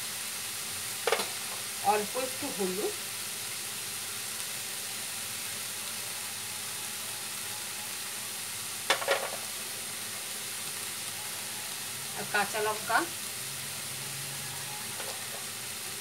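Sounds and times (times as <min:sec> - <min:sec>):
leaves sizzling in oil: 0:00.0 - 0:16.0.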